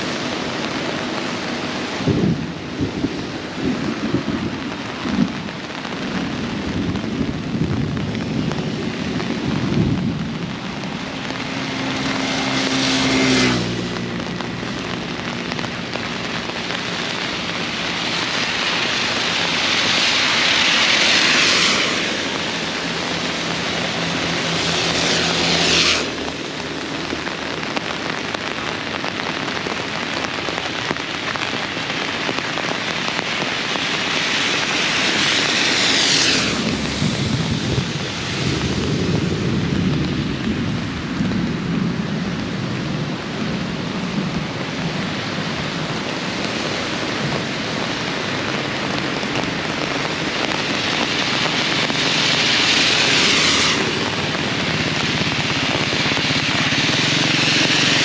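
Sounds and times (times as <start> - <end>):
heavy rain pouring: 0.0 - 58.0
passing traffic engine hum: 0.0 - 58.0.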